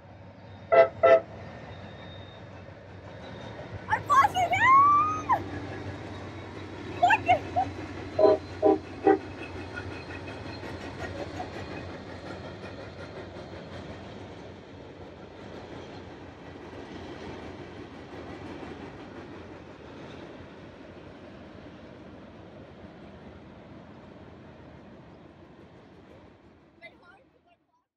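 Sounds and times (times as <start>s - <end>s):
train cars rumbling over bridge: 0.0s - 27.2s.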